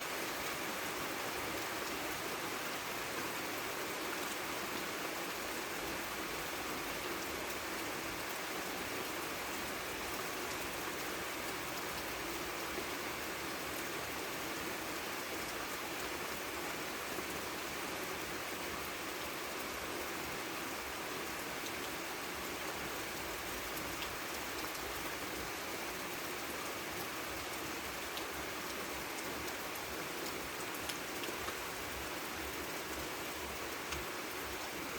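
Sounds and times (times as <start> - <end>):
light rain hiss: 0.0 - 34.9.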